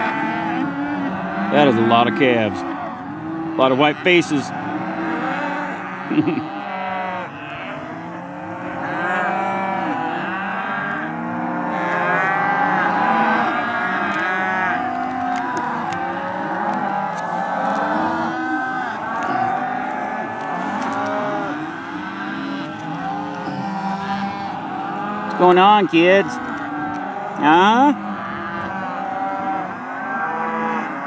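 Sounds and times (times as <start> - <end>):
calves bawling: 0.0 - 31.0.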